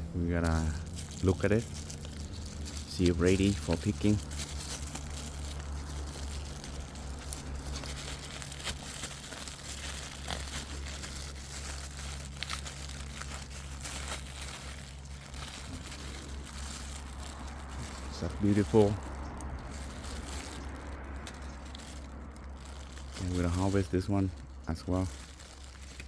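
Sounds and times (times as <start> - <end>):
leaves and branches rustling: 0.0 - 26.0
steady low rumble: 0.0 - 26.0.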